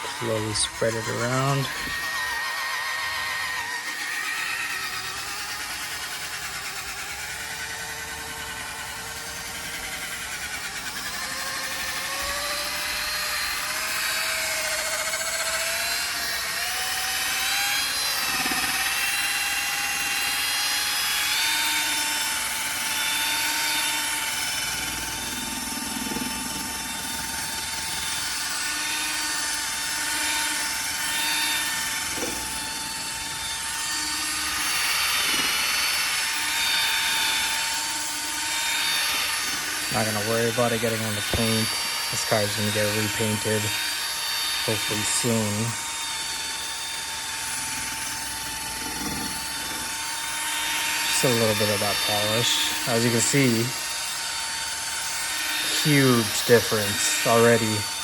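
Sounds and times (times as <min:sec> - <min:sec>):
cordless drill motor whine: 0:00.0 - 0:58.0.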